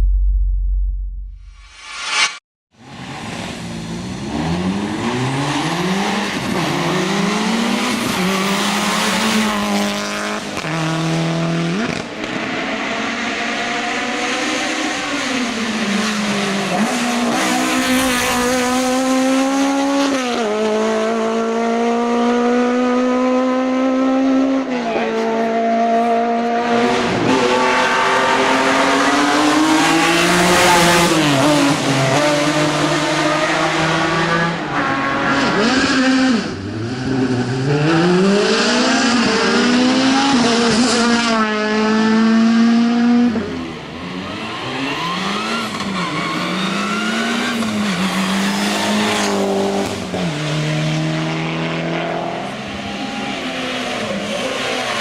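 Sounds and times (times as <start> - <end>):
race car engines revving: 1.9 - 55.0.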